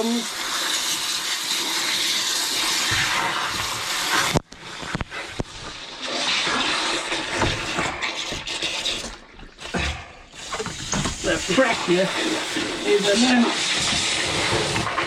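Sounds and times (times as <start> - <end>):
water spraying from a pipe: 0.0 - 15.0.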